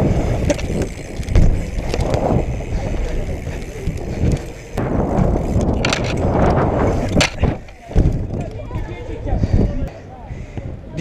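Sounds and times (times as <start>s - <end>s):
wind on microphone: 0.0s - 9.9s
bike tyre rumble: 0.0s - 10.9s.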